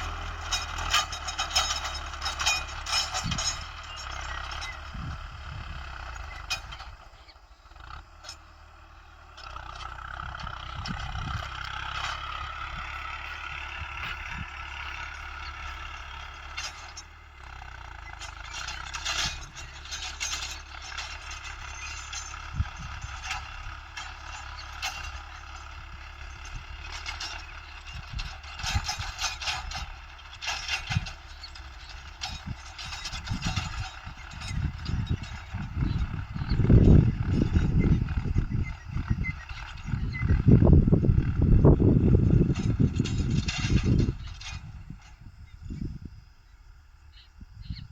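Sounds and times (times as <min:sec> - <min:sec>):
rattles and knocks of implement: 0:00.0 - 0:47.9
tractor diesel engine running: 0:00.0 - 0:47.9.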